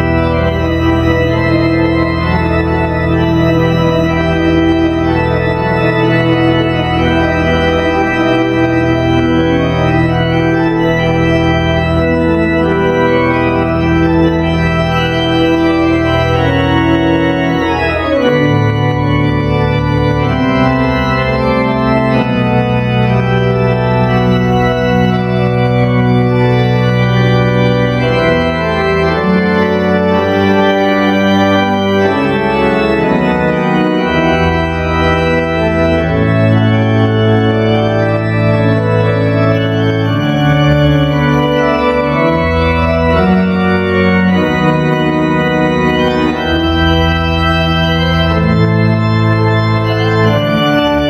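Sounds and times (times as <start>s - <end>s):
pipe organ playing chords: 0.0s - 51.0s.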